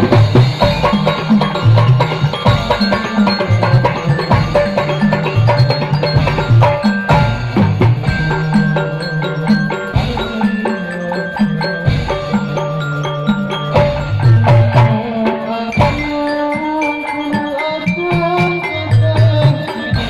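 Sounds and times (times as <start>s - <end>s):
bass line: 0.0s - 16.1s
hand drums beating a rhythm: 0.0s - 20.0s
melody on pitched instrument: 0.0s - 20.0s.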